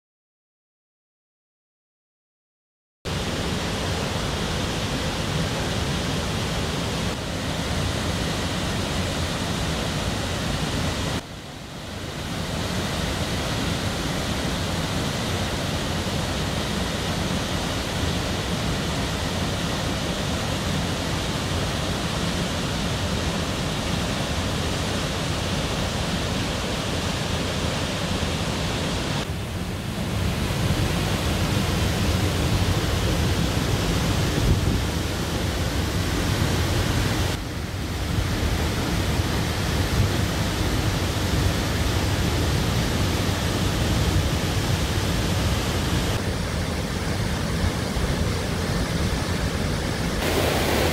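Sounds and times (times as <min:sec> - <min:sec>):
waterfall rushing: 0:03.1 - 0:50.9.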